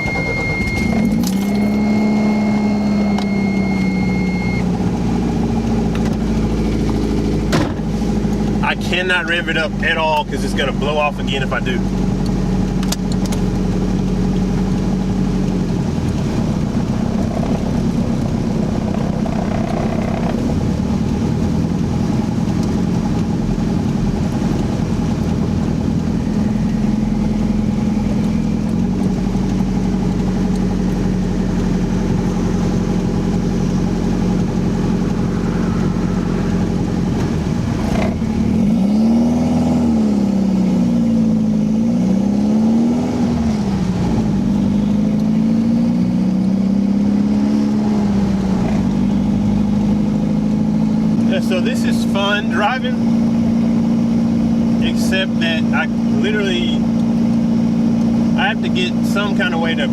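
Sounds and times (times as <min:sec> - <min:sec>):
turbocharged car engine running: 0:00.0 - 0:59.9.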